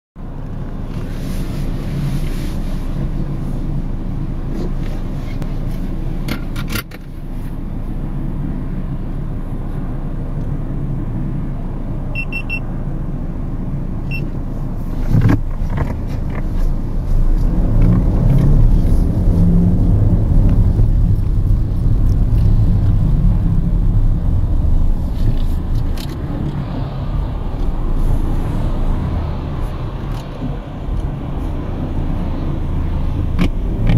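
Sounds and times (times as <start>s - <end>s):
diesel engine rumble in cabin: 0.2s - 33.9s.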